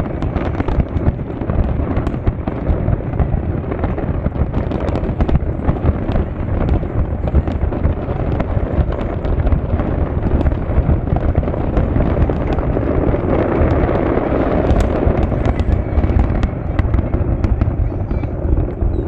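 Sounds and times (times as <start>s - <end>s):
fireworks barrage rumbling: 0.0s - 19.0s
fireworks crackling and popping: 0.0s - 19.0s.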